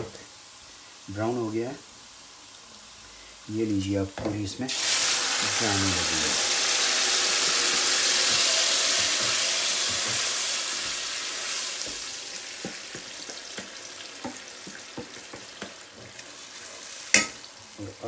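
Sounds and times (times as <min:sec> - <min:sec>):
sauce sizzling in hot oil: 0:00.0 - 0:18.0.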